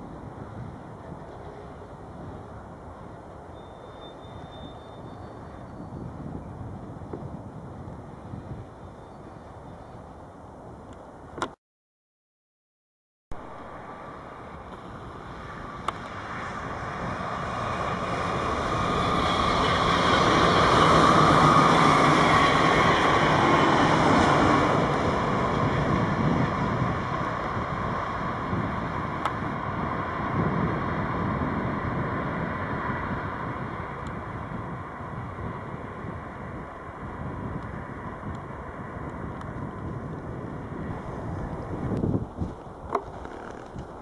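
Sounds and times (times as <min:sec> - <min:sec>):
train wheels rumbling on rails: 0:00.0 - 0:05.6, 0:13.4 - 0:44.0.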